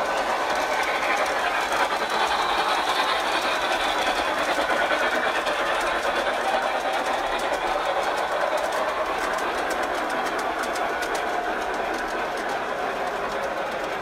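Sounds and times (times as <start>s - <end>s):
model train motor whir: 0.0s - 14.0s
wheels rattling on rails: 0.0s - 14.0s.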